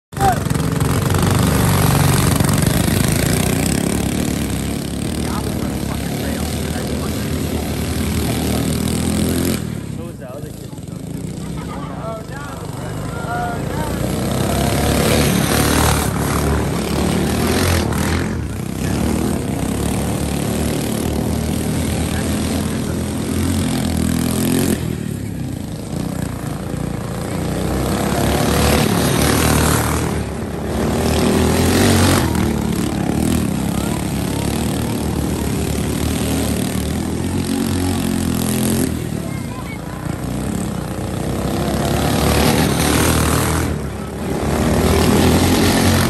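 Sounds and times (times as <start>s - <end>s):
go-kart engines racing: 0.1s - 46.0s.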